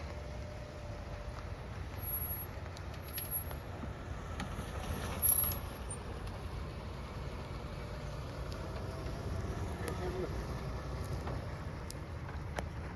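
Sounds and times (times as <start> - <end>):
engine and tyres rumbling: 0.0 - 12.9.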